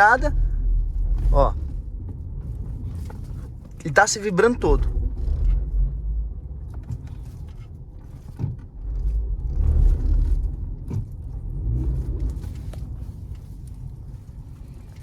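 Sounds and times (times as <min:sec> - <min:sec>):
car drivetrain shuddering rumble: 0:00.0 - 0:15.0.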